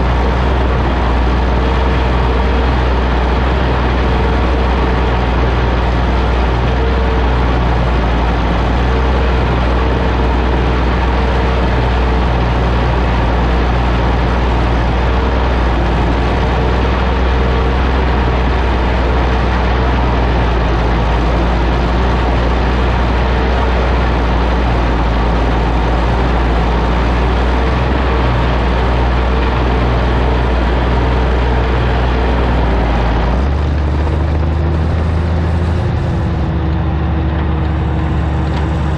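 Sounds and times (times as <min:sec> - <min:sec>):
crawler tractor engine running: 0:00.0 - 0:38.9.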